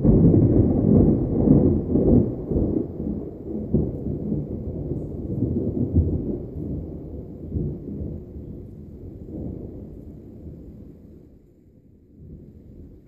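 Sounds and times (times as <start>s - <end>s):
thunder rolling: 0.0s - 11.4s.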